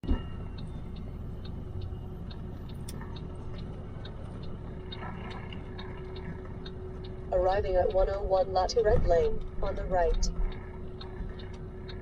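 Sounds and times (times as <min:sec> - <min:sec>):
road noise: 0:00.0 - 0:12.0
truck engine rumble: 0:00.0 - 0:12.0
turn signal ticking: 0:00.0 - 0:12.0.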